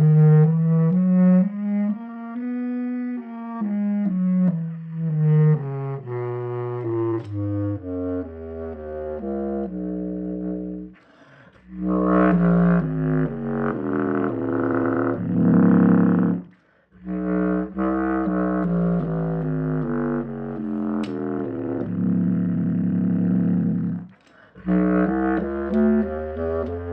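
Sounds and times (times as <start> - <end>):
processed bass clarinet notes: 0.0 - 26.9.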